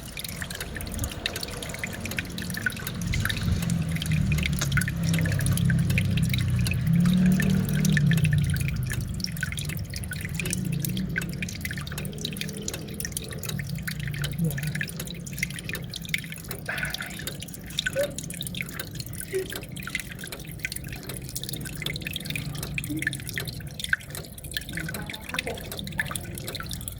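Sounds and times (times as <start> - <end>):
water dripping and splashing: 0.0 - 26.9.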